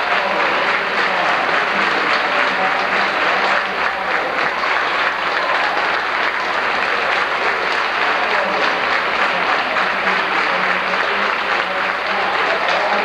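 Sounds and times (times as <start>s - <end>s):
crowd applauding: 0.0s - 13.0s
voices: 0.0s - 13.0s.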